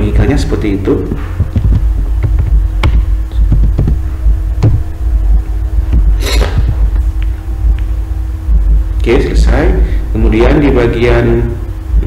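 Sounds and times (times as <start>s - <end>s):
loud low hum: 0.0s - 12.0s.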